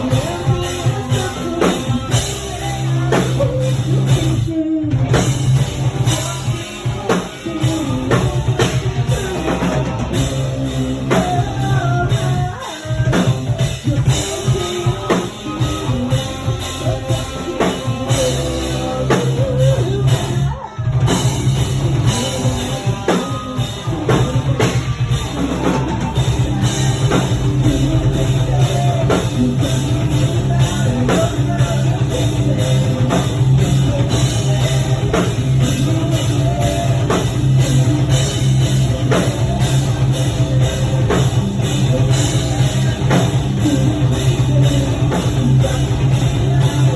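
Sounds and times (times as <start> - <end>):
metalcore band playing: 0.0 - 46.9.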